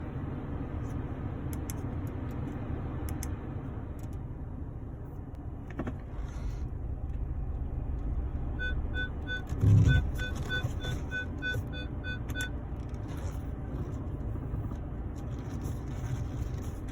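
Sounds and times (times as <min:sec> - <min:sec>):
car cabin low rumble: 0:00.0 - 0:16.9.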